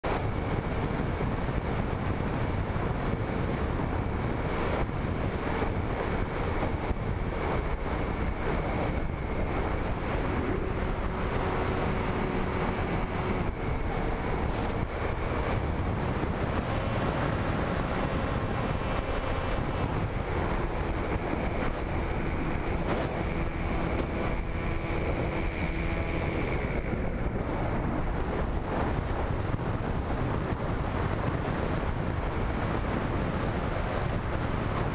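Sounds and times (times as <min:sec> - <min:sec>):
motor and propeller whine: 0:00.0 - 0:34.9
wind rushing over microphone: 0:00.0 - 0:34.9.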